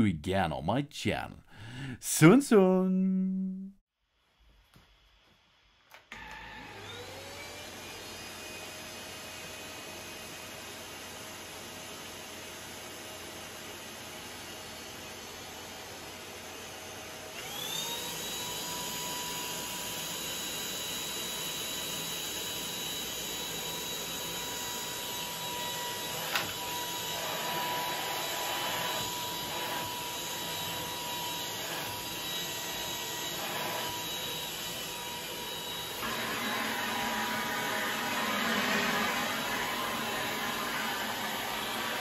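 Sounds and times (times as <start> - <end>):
vacuum motor whining: 6.1 - 12.2, 14.3 - 42.0.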